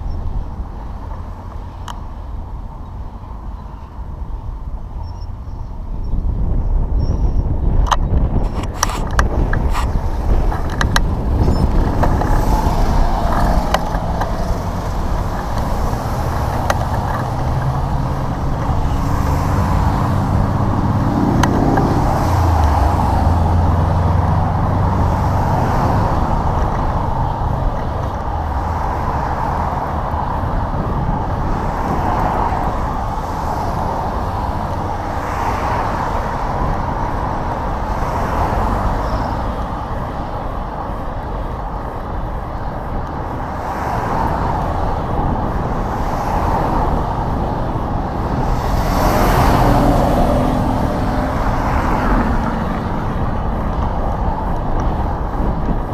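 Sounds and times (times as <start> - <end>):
road traffic rumble: 0.0 - 55.9
wind buffeting microphone: 0.0 - 55.9
vehicle passing close by: 8.2 - 41.0, 41.9 - 55.9.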